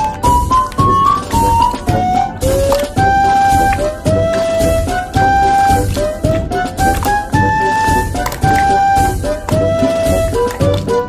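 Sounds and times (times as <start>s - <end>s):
pure-toned melody: 0.0s - 11.0s
steady beat: 0.0s - 11.0s.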